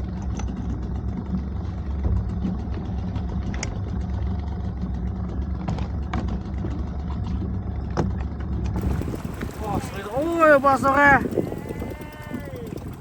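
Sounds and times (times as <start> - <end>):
small boat motor running: 0.0 - 13.0.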